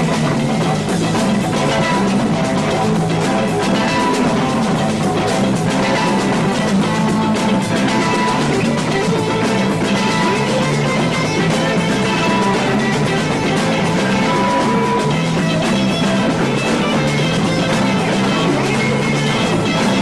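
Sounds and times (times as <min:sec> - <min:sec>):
drum kit: 0:00.0 - 0:20.0
electric guitar playing: 0:00.0 - 0:20.0.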